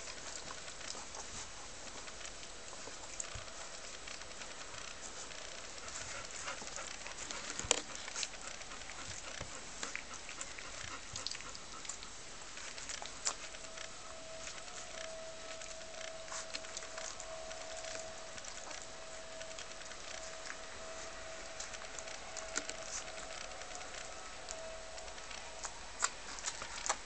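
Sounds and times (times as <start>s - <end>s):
puppies rustling: 0.0s - 27.0s
thin steady whine: 0.0s - 27.0s.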